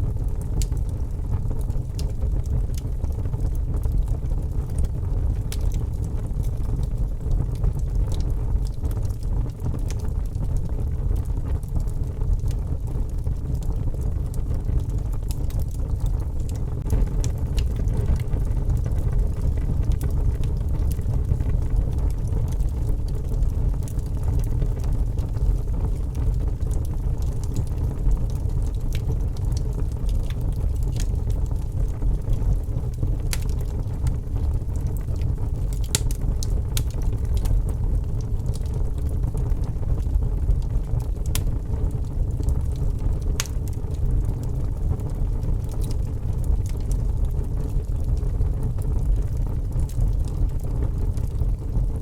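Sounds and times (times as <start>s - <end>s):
low rumble: 0.0s - 44.4s
wood fire crackling: 0.0s - 52.0s.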